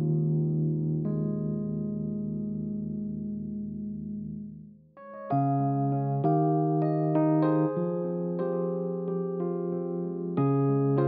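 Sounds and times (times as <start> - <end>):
sustained keyboard chord: 0.0 - 11.0.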